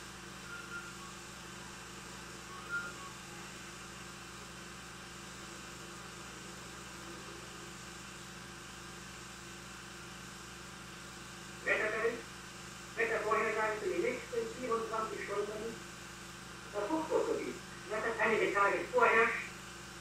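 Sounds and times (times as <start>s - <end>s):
low mains hum and hiss: 0.0s - 20.0s.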